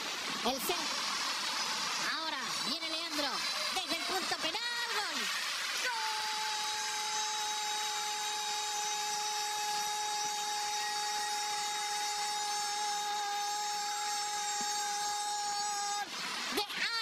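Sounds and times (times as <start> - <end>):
high-pitched whine: 0.0 - 16.6.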